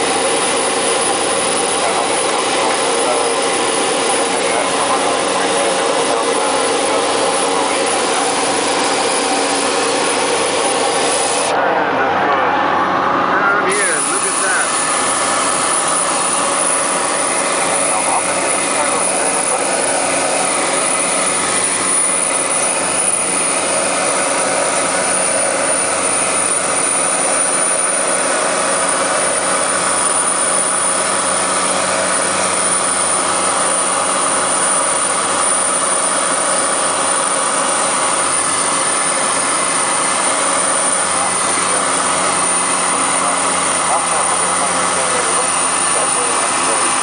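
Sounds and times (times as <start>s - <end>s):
turboprop engine drone in cabin: 0.0s - 47.0s.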